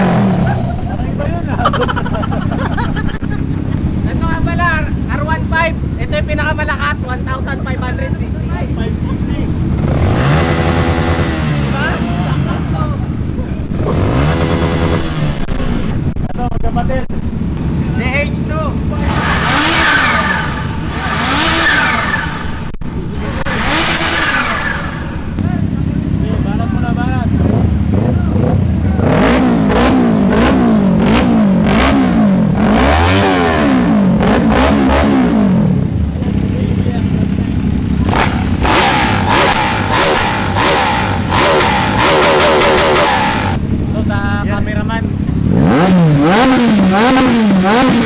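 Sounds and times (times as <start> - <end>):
motorcycles passing at speed: 7.6 - 16.2, 17.4 - 48.0.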